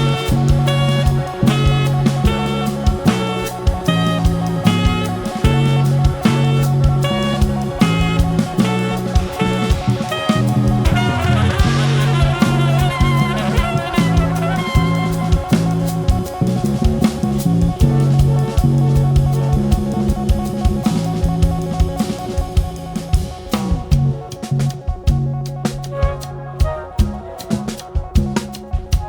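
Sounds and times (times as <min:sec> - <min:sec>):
bass line: 0:00.0 - 0:29.0
drum kit: 0:00.0 - 0:29.0.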